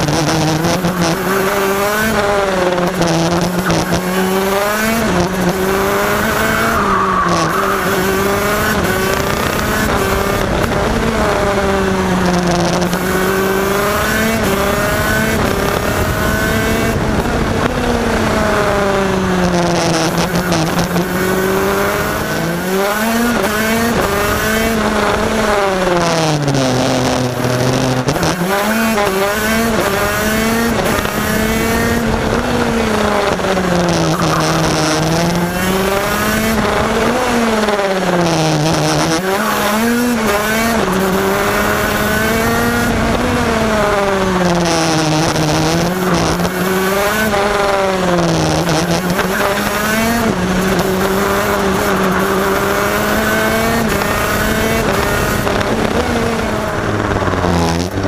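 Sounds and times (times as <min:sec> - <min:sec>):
two-stroke kart engine racing: 0:00.0 - 0:58.0.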